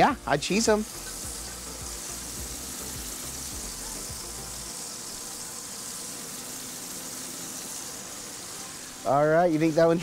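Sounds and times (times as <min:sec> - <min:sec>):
burger patties sizzling on griddle: 0:00.0 - 0:10.0.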